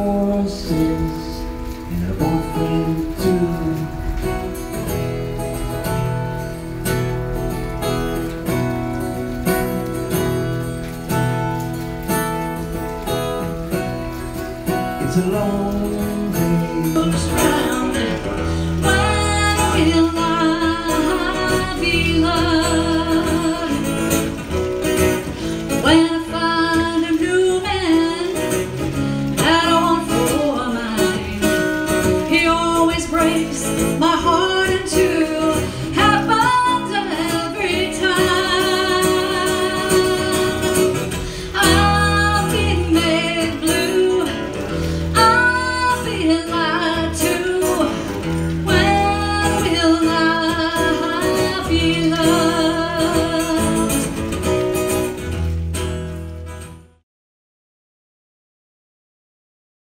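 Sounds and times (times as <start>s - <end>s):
woman singing: 0.0s - 7.3s, 13.8s - 54.7s
strummed acoustic guitar: 0.0s - 57.0s.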